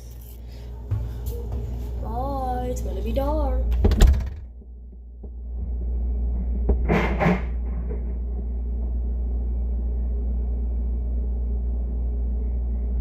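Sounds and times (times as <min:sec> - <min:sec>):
refrigerator humming: 0:00.0 - 0:13.0.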